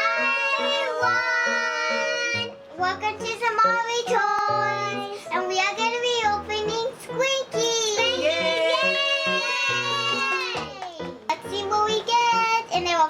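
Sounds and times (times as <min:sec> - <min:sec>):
child singing: 0:00.0 - 0:10.3, 0:11.3 - 0:13.0.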